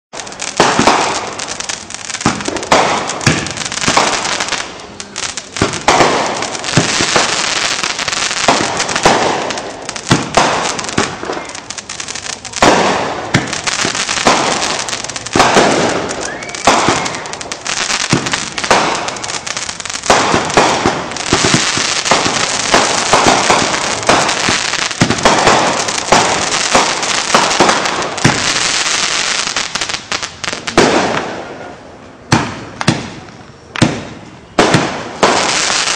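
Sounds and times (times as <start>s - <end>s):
fireworks bangs: 0.1s - 35.9s
fireworks crackling: 0.1s - 35.9s.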